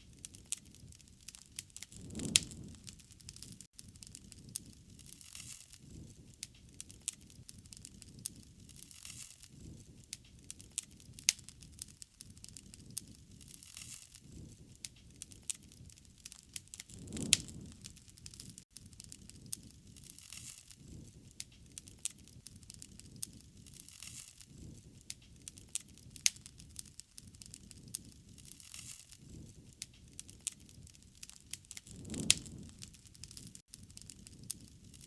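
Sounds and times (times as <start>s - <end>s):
low rumble of flame: 0.0s - 35.0s
wood fire crackling and popping: 0.0s - 35.0s.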